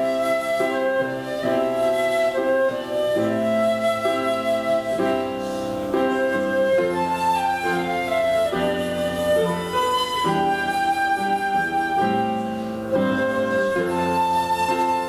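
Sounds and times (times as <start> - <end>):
instrumental music with sustained melody: 0.0 - 15.0.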